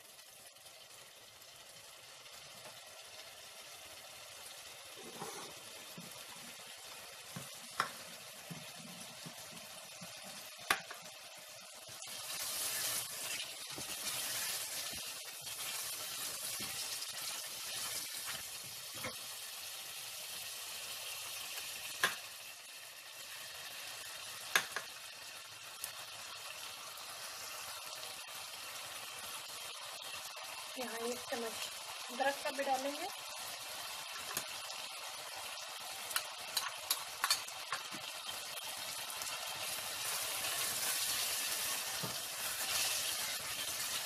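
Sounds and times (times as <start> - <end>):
vegetables sizzling in a pot: 0.0 - 44.0.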